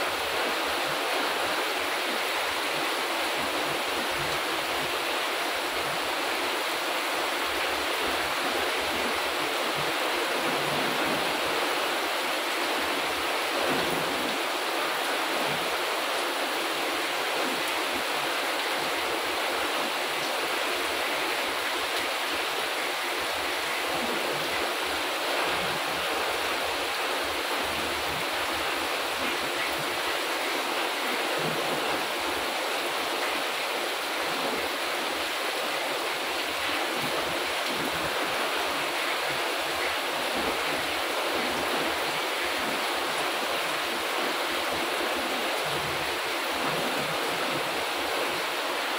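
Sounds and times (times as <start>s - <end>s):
heavy rain on plants and paving: 0.0s - 48.9s.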